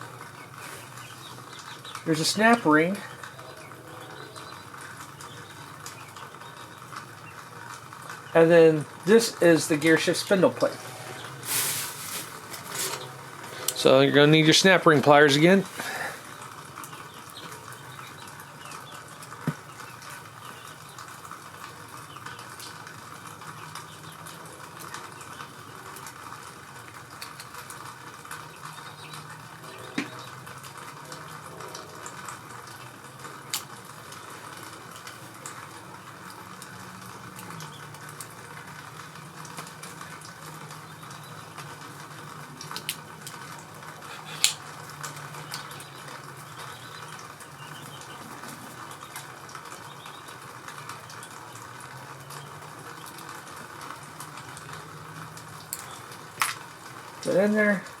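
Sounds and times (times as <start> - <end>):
steady hiss and low hum: 0.0 - 58.0.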